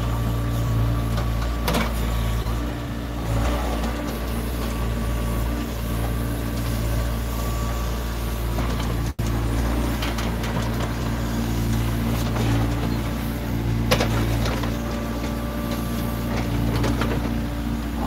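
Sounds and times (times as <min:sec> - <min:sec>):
diesel excavator engine running: 0:00.0 - 0:18.0.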